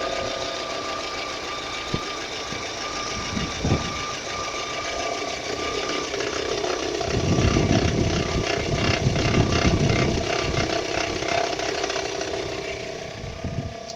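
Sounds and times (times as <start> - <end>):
engine running with rhythmic knock: 0.0 - 13.9.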